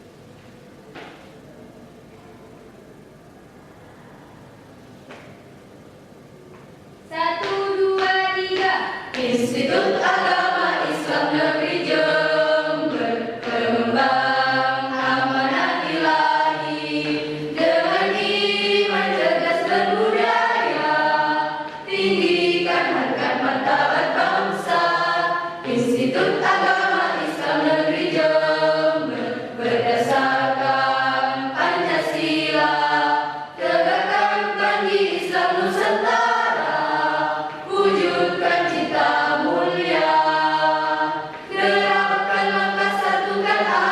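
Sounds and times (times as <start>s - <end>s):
choir singing: 7.1s - 43.9s.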